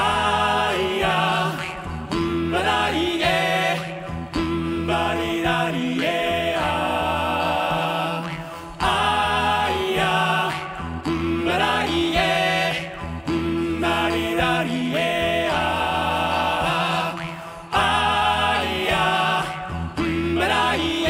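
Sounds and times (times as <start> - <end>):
male vocal ensemble singing a cappella: 0.0 - 21.0.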